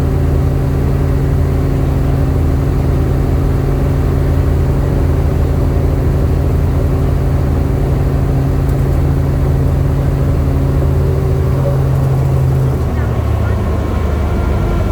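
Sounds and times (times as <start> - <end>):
helicopter running: 0.2 - 14.9.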